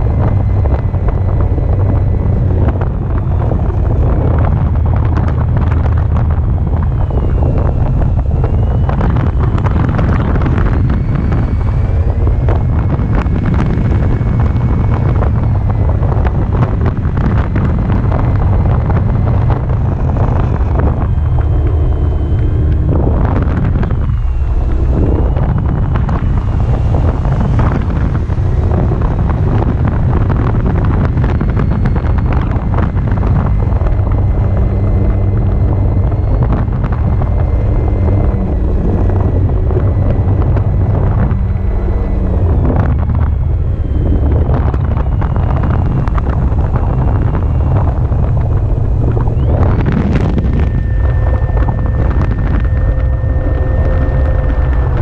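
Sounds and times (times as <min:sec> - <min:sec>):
model plane electric motor whine: 0:00.0 - 0:55.0
wind buffeting microphone: 0:00.0 - 0:55.0.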